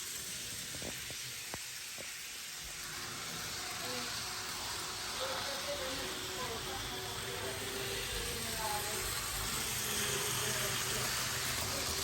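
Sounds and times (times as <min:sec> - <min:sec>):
model train wheels hissing: 0:00.0 - 0:12.0.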